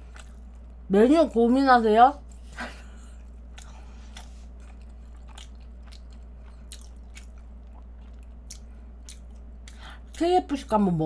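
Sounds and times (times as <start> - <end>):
chewing pastry: 0.0 - 0.8, 2.2 - 10.3
steady low hum: 0.0 - 11.0.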